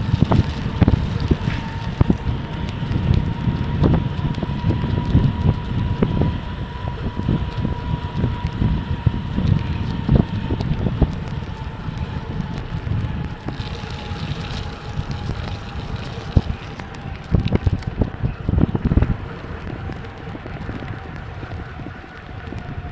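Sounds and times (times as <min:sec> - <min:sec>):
bike tyres rumbling on rough ground: 0:00.0 - 0:22.9
wind buffeting microphone: 0:00.0 - 0:22.9.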